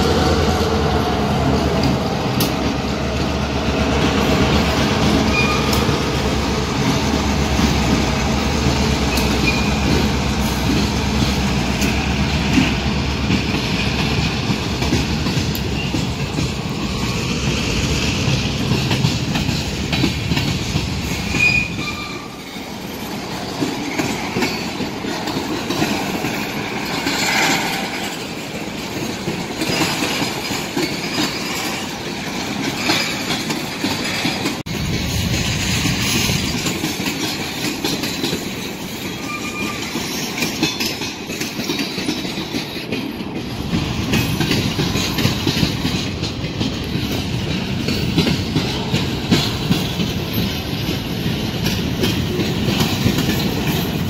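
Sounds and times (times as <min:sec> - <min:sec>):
freight train wheels rumbling: 0:00.0 - 0:54.0
wheels clicking over rail joints: 0:01.4 - 0:54.0.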